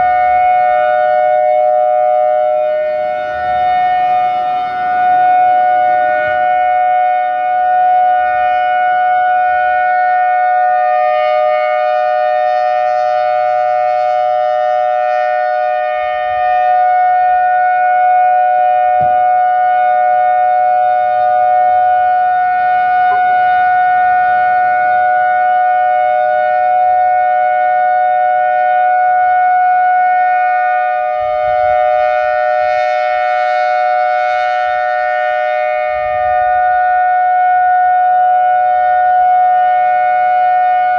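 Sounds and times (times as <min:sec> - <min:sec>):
warning siren steady two-pitch chord: 0:00.0 - 0:40.9.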